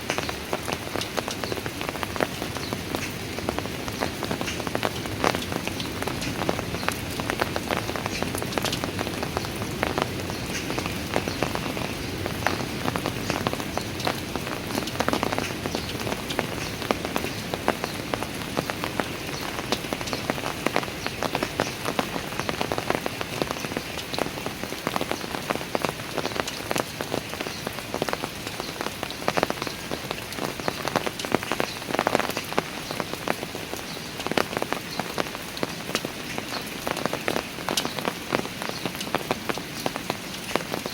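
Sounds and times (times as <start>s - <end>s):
rain pattering on hard surfaces: 0.0s - 40.9s.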